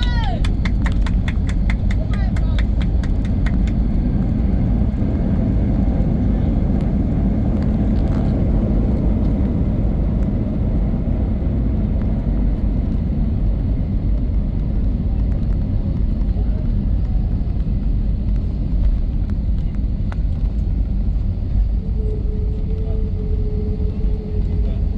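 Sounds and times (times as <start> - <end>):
jet engines rumbling: 0.0 - 24.9.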